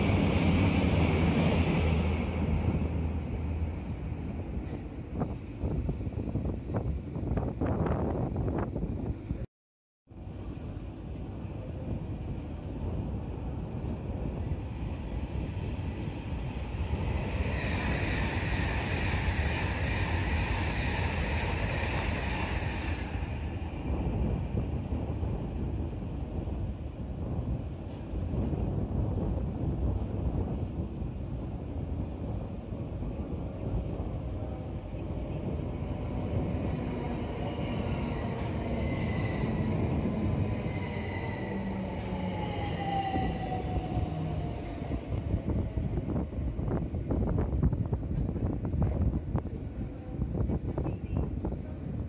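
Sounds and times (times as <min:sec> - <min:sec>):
train wheels on rail rushing: 0:00.0 - 0:08.8, 0:10.5 - 0:52.0.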